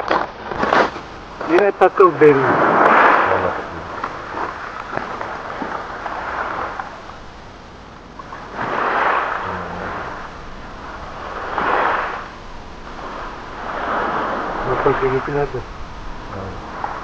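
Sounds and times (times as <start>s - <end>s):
small waves on a pebble shore: 0.0s - 7.2s, 8.2s - 15.6s.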